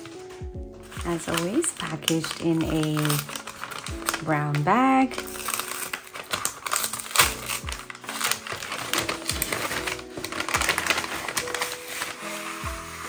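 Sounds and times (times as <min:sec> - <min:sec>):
background music: 0:00.0 - 0:13.0
paper bag crinkling: 0:00.0 - 0:13.0
tape peeling: 0:00.0 - 0:13.0.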